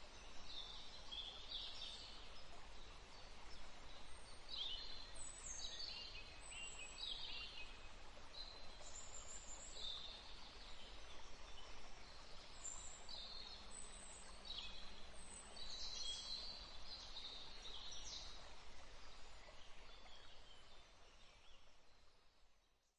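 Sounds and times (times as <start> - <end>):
steady background hiss: 0.0 - 22.2.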